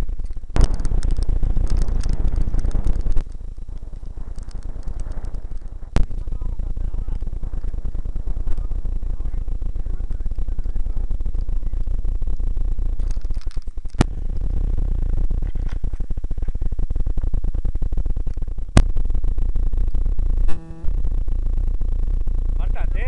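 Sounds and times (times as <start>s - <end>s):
rattle over rough gravel: 0.0s - 23.0s
sharp clicks: 0.0s - 23.0s
wind buffeting microphone: 0.0s - 23.0s.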